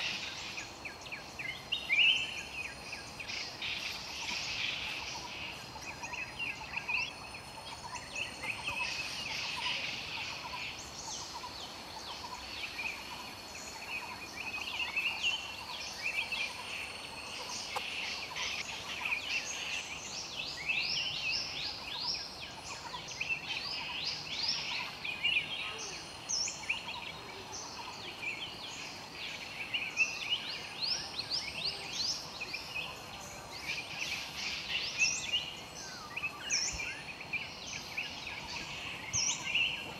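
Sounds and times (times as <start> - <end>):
bird chirping: 0.0 - 39.9
insects humming: 0.0 - 39.9.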